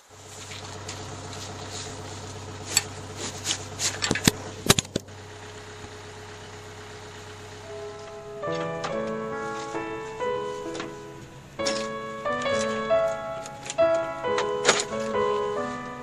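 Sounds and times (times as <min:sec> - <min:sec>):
excavator engine idling: 0:00.0 - 0:16.0.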